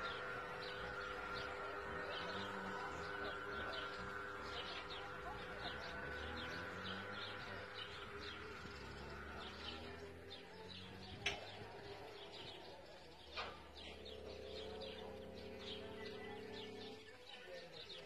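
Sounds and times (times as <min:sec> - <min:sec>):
birds chirping: 0:00.0 - 0:18.0
gate motors humming: 0:00.0 - 0:18.0.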